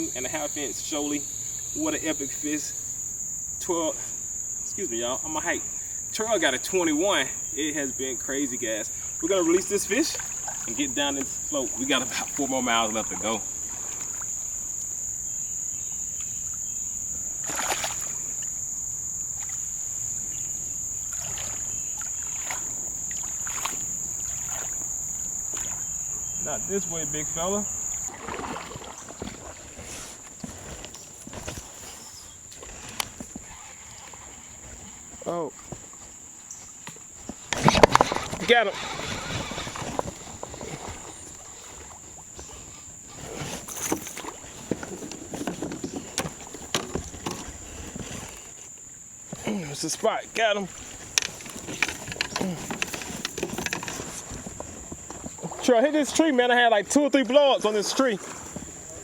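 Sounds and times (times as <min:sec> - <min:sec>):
insects droning: 0:00.0 - 0:59.0
paddle splashing water: 0:00.0 - 0:59.0.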